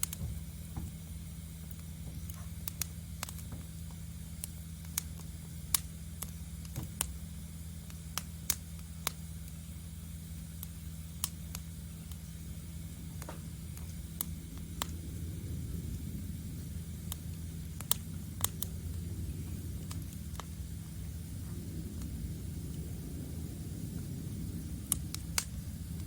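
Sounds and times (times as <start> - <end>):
low rumble: 0.0 - 26.0
wood fire crackling and popping: 0.0 - 26.0.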